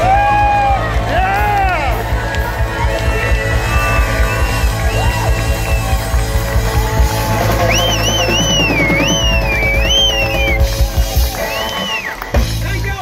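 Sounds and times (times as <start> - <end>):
drum kit beat: 0.0 - 13.0
live rock band playing: 0.0 - 13.0.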